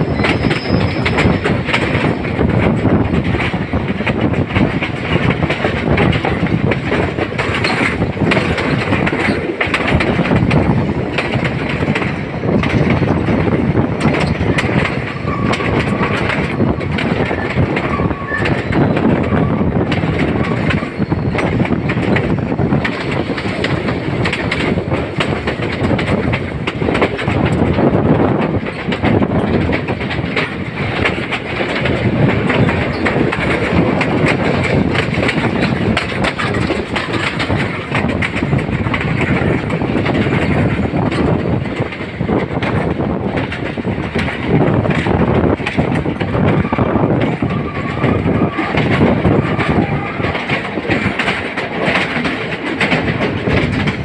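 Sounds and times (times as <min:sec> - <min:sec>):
train wheels rumbling on rails: 0:00.0 - 0:54.0
carriage rattling and knocking: 0:00.2 - 0:54.0.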